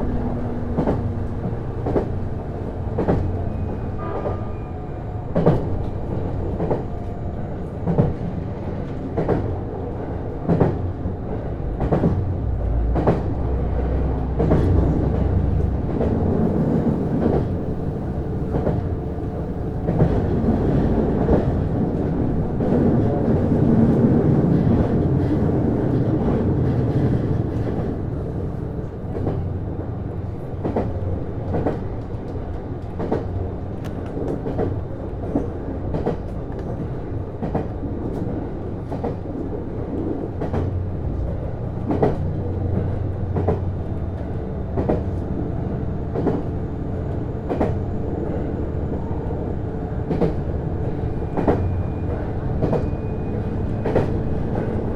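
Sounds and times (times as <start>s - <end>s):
train interior low hum: 0.0s - 54.9s.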